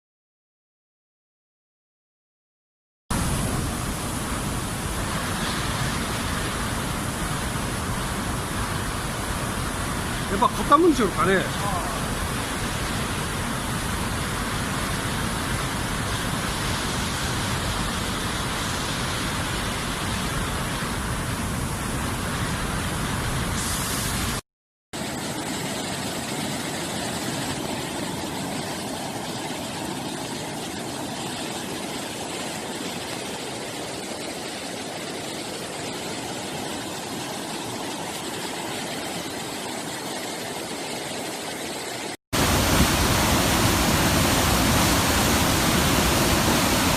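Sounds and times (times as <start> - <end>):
steady rushing noise: 3.1 - 24.4, 25.0 - 46.9.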